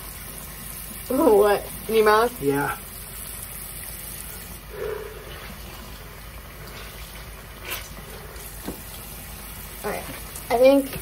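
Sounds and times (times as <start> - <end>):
bathroom tap running: 0.0 - 11.0.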